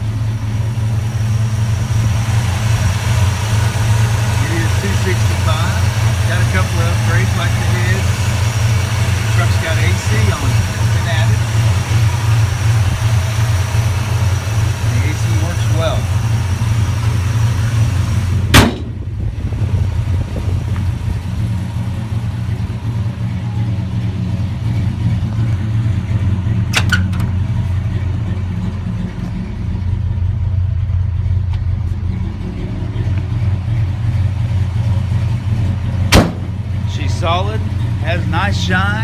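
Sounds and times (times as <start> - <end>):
pickup truck engine idling: 0.0 - 39.0.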